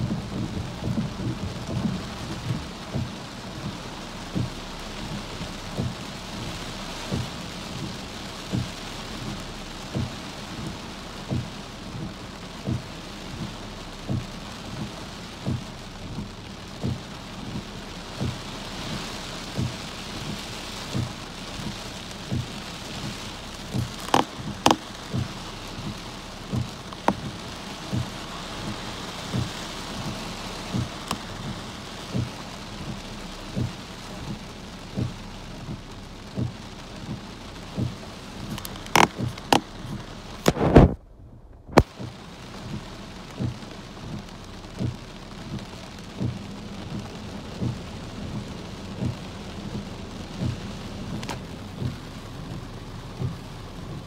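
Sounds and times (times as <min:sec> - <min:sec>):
heavy raindrops thudding: 0:00.0 - 0:54.0
rain on car windshield: 0:00.0 - 0:54.0.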